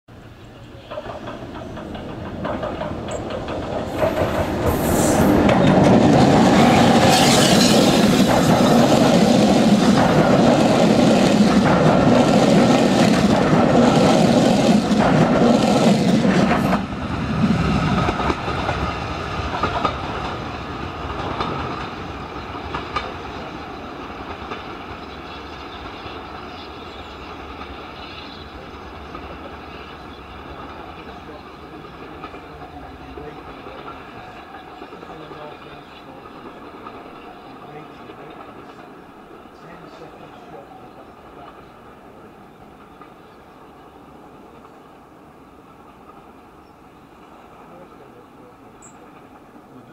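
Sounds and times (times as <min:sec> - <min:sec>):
steam train passing: 0:00.1 - 0:49.9.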